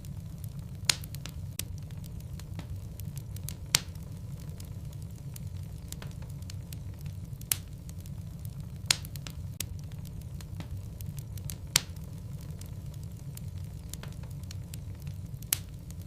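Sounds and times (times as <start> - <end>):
logs crackling in fireplace: 0.0 - 16.0
low fire rumble: 0.0 - 16.0
sharp fire pops: 0.0 - 16.0.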